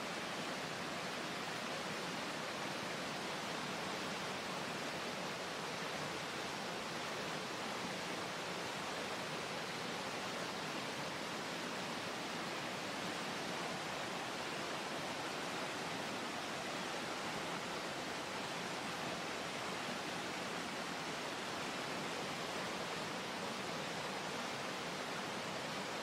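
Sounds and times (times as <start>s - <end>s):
creek rapids rushing: 0.0s - 26.0s.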